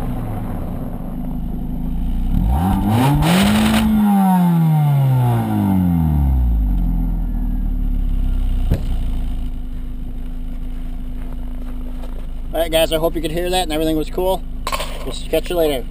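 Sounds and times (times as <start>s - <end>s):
car exhaust idling and revving: 0.0s - 15.9s.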